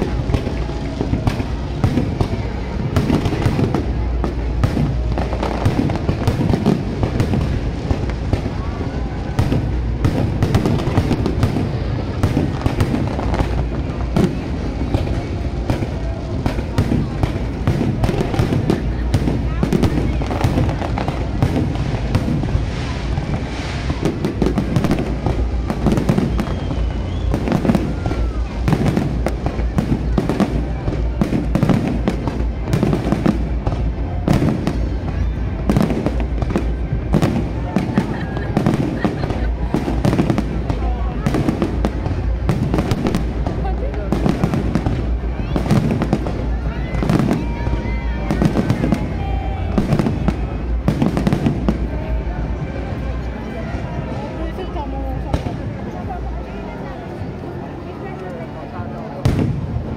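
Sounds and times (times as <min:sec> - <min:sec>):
fireworks bangs and crackles: 0:00.0 - 0:59.9
fireworks rumble of explosions: 0:00.0 - 0:59.9.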